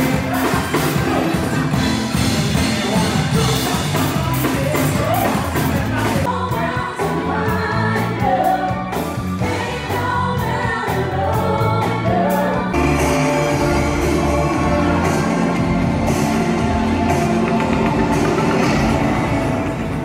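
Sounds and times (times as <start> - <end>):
live band with vocalists singing: 0.0 - 20.0.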